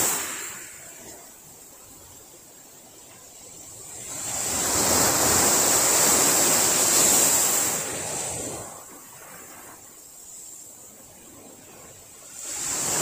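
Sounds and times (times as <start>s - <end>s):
wave breaking on beach: 0.0s - 1.8s, 3.6s - 13.0s.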